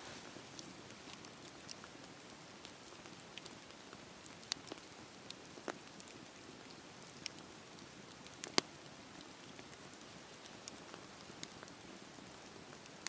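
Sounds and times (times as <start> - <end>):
campfire hiss: 0.0 - 13.0
fire crackles and pops: 0.0 - 13.0.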